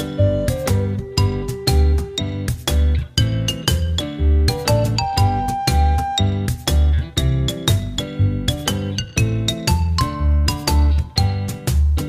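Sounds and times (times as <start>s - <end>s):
instrumental music with bass beat: 0.0s - 12.0s.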